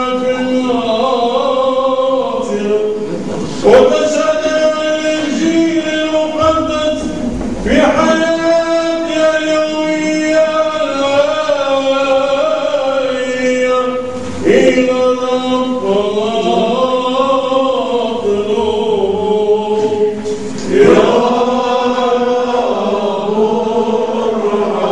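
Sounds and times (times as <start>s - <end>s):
men chanting a hymn: 0.0s - 24.9s.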